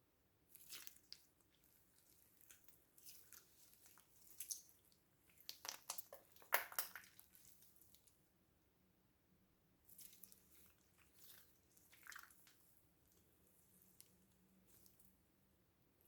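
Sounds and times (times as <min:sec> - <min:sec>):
slime squishing by hand: 0:00.4 - 0:08.2, 0:09.8 - 0:15.5.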